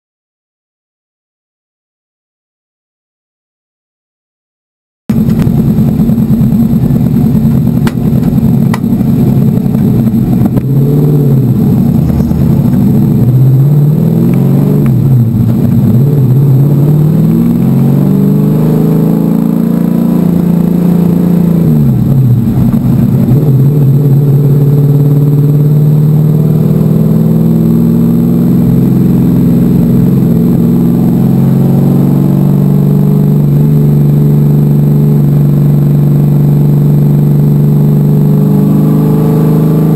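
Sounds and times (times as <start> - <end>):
car engine revving: 5.1 - 39.9.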